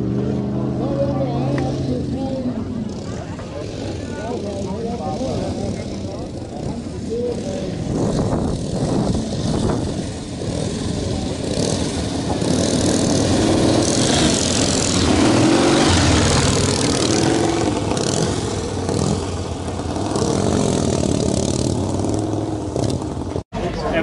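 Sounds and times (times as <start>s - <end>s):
motorcycles riding past: 0.0s - 24.0s.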